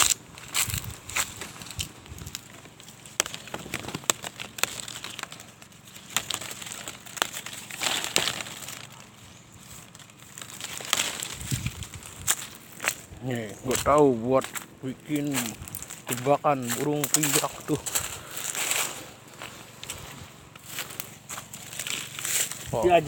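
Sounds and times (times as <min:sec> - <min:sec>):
dry leaves rustling and crackling: 0:00.0 - 0:23.0.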